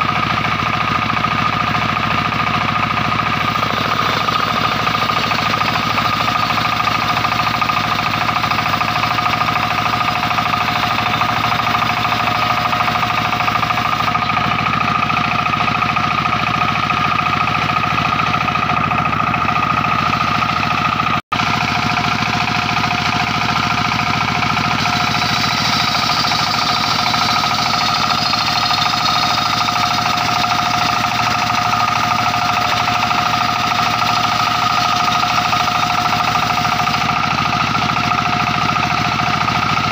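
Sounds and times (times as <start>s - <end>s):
circular saw blade whining: 0.0s - 39.9s
engine chatter: 0.0s - 39.9s.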